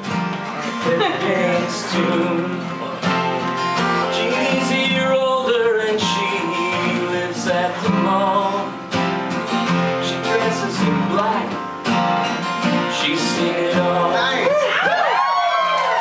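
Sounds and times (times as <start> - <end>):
two guitars playing: 0.0 - 16.0.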